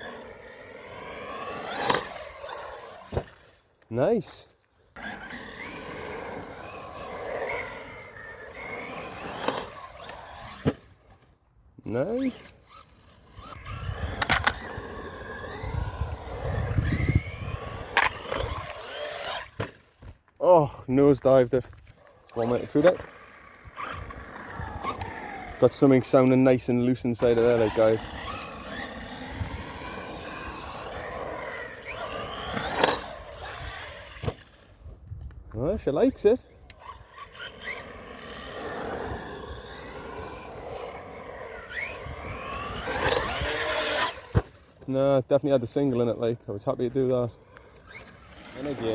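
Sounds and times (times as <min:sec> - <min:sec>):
electric motor whining: 0:00.0 - 0:03.6, 0:04.9 - 0:11.2, 0:12.0 - 0:19.8, 0:21.8 - 0:35.0, 0:35.8 - 0:44.9, 0:47.0 - 0:48.9.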